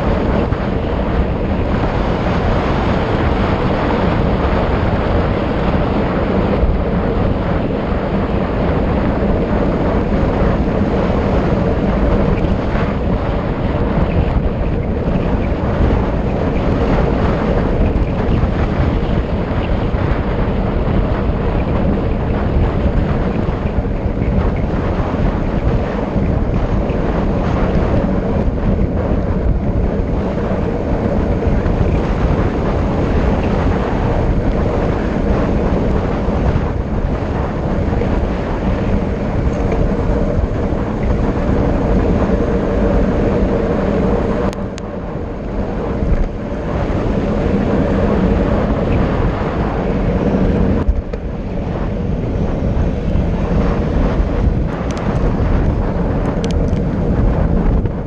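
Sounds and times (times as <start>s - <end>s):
road noise hum: 0.0s - 58.0s
wind rushing over microphone: 0.0s - 58.0s.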